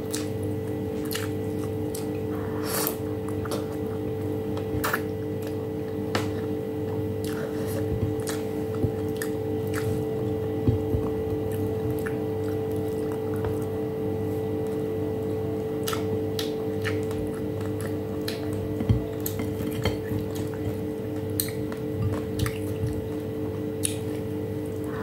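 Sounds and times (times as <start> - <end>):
chewing smacks: 0.0 - 13.8, 15.7 - 24.9
steady low hum: 0.0 - 25.0.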